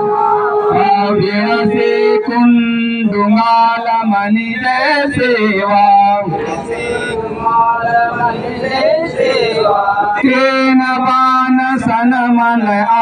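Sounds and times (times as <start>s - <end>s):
man chanting a prayer: 0.0s - 13.0s.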